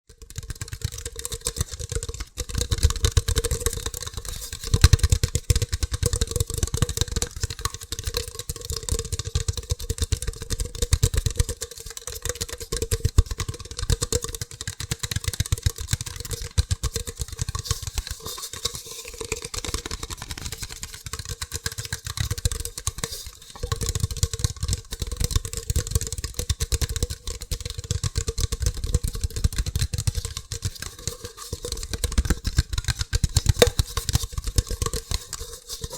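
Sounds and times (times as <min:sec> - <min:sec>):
fast fingertip tapping on hard objects: 0:00.1 - 0:35.9.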